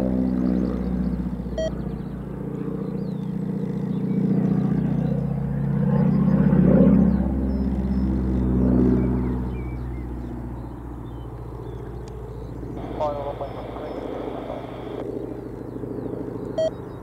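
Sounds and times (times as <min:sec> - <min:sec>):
propeller aircraft droning overhead: 0:00.0 - 0:17.0.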